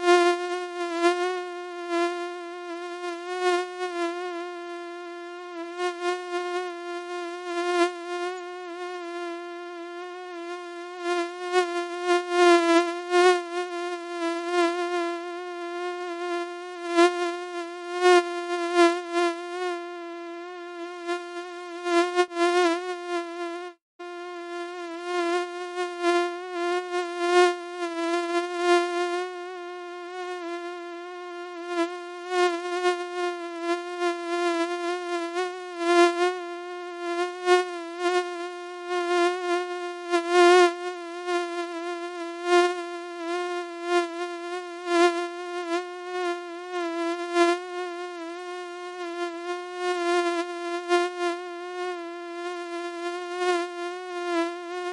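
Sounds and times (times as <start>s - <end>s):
mosquito buzzing: 0.0s - 54.9s.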